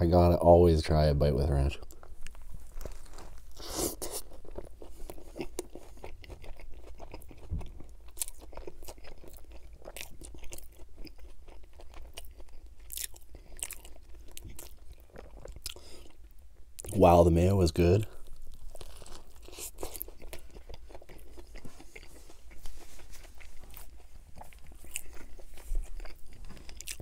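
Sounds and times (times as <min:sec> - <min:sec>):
biting and chewing sandwich: 0:01.8 - 0:17.0, 0:18.0 - 0:27.0.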